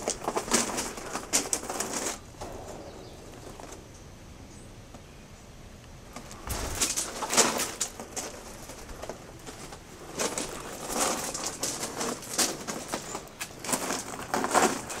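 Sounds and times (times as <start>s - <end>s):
rustling noise: 0.0s - 4.0s, 6.1s - 15.0s.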